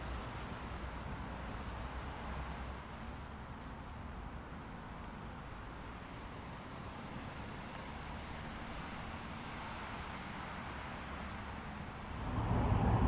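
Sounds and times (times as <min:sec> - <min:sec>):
distant traffic rumble and hiss: 0:00.0 - 0:13.0.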